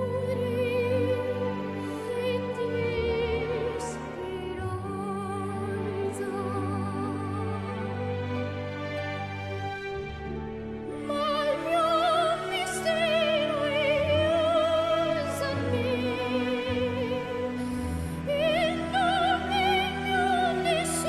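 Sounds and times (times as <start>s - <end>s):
classical backing accompaniment: 0.0s - 21.0s.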